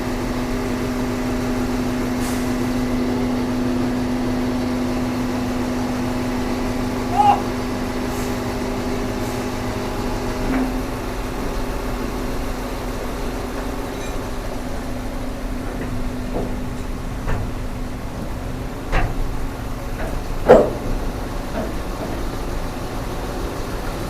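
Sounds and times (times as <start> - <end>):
excavator engine idling: 0.0 - 24.0.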